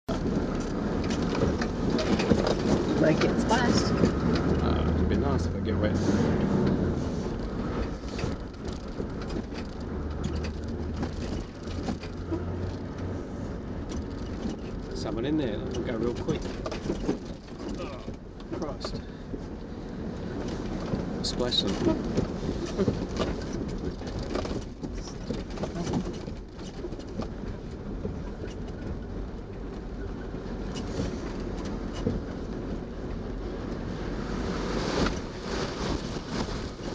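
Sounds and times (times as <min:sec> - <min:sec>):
low engine hum: 0:00.0 - 0:36.9
vehicle low rumble: 0:00.0 - 0:36.9
knocks and rattles: 0:00.1 - 0:19.5, 0:20.1 - 0:33.8.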